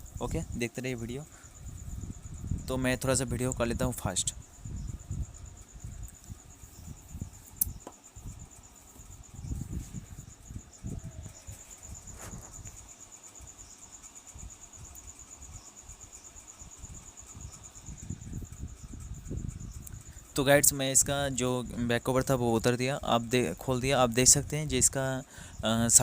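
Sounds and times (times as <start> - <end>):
cricket chirring: 0.0 - 26.0.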